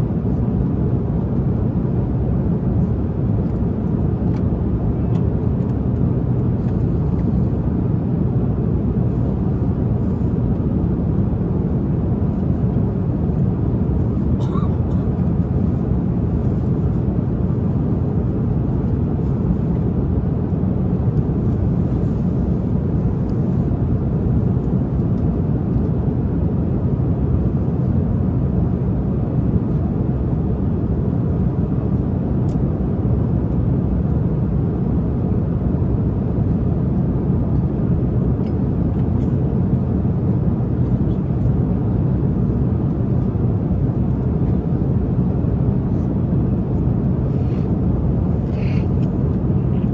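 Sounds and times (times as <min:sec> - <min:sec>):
jet engine and airflow rumble: 0:00.0 - 0:49.9.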